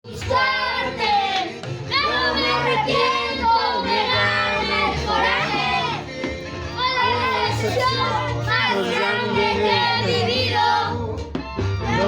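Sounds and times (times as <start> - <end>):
child singing: 0.1 - 6.0, 6.8 - 11.0
music with low accompaniment: 0.1 - 12.0.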